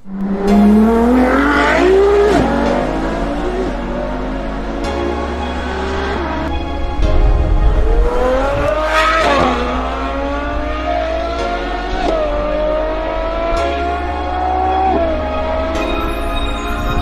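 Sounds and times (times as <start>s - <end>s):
car engine accelerating through gears: 0.0s - 6.5s, 7.6s - 15.8s.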